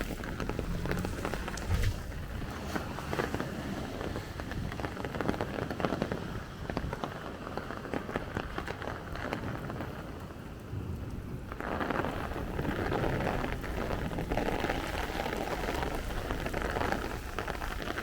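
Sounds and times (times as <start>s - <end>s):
rain pattering on street: 0.0s - 18.0s.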